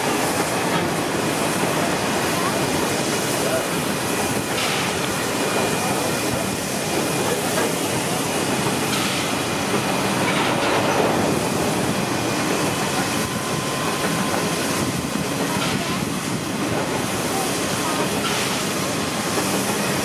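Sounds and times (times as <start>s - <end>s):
train wagons rolling on rails: 0.0s - 20.0s.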